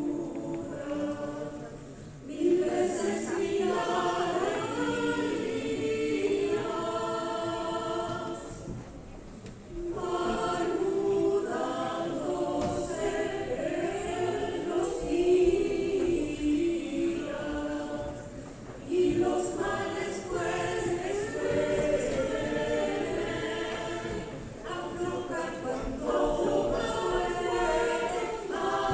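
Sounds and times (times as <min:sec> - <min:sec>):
choir singing sustained chords: 0:00.0 - 0:08.8, 0:09.7 - 0:28.9.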